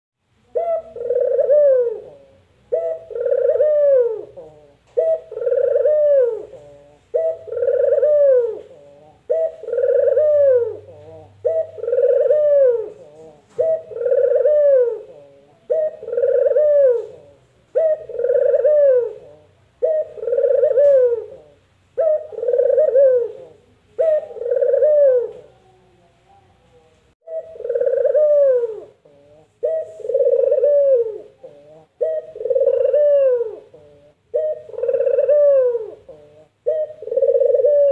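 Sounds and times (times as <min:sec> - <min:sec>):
dove cooing: 0:00.4 - 0:37.9.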